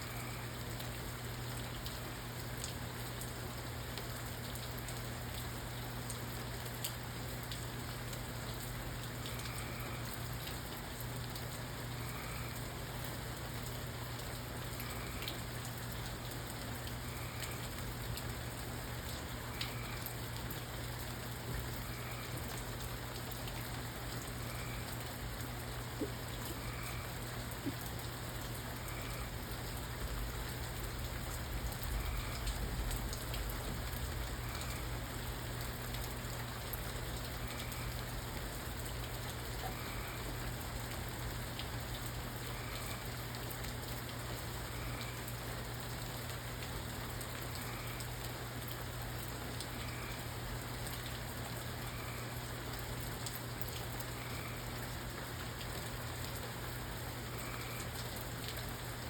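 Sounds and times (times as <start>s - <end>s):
constant low hum: 0.0s - 49.0s
rainfall: 0.0s - 59.0s
raindrops ticking: 0.1s - 59.0s.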